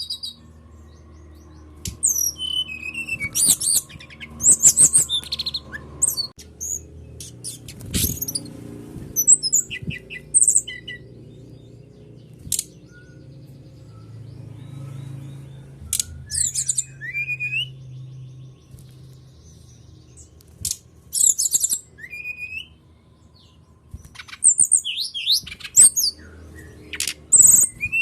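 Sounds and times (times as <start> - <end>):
bird singing varied song: 0.0 - 28.0.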